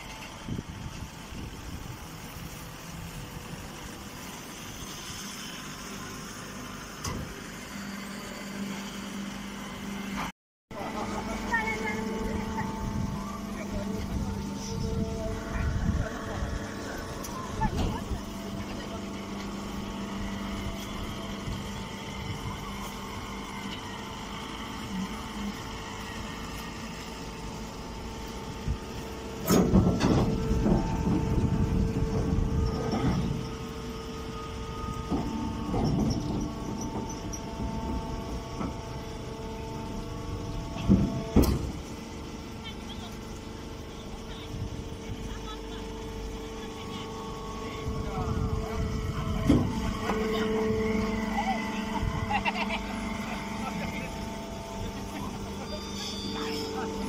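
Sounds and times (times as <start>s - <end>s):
baling machinery humming: 0.0s - 57.0s.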